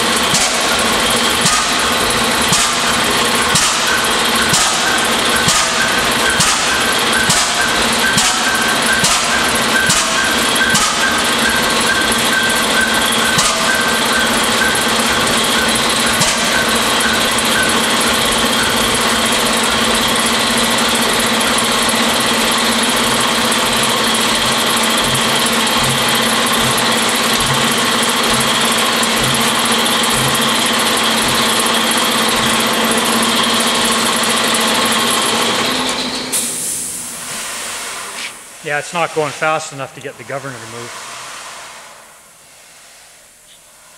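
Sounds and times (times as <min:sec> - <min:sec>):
stationary engine turning over on air: 0:00.0 - 0:37.6.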